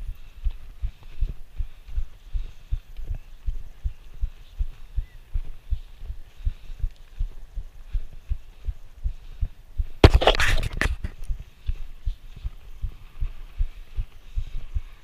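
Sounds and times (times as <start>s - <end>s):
footsteps on dirt: 0.0s - 15.0s.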